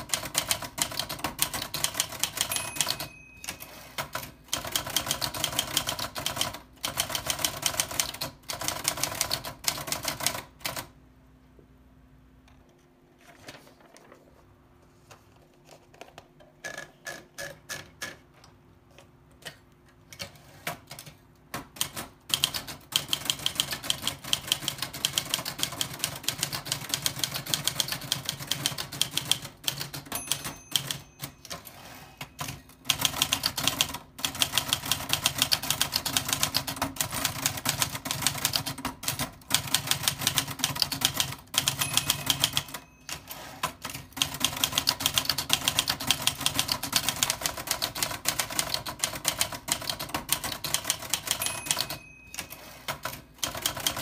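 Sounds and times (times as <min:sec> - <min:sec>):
typewriter keystrokes: 0:00.0 - 0:10.9, 0:19.4 - 0:54.0.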